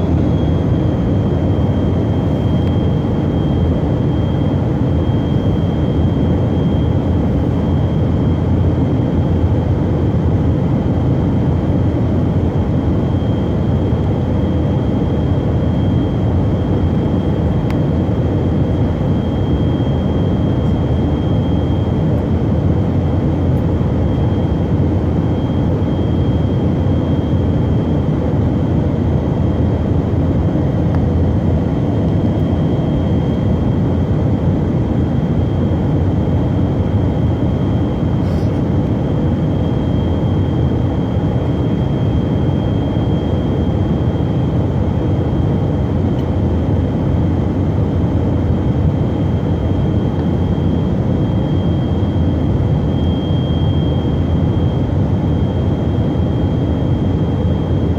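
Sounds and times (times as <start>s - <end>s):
thin steady whine: 0.0s - 9.8s, 11.4s - 57.9s
aircraft cabin engine rumble: 0.0s - 57.9s.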